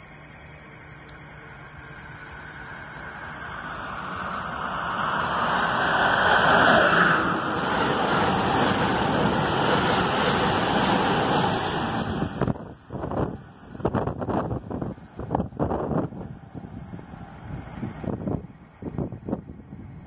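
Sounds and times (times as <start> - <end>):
train passing at speed: 1.3 - 20.0
rush of wheels and air: 2.2 - 20.0.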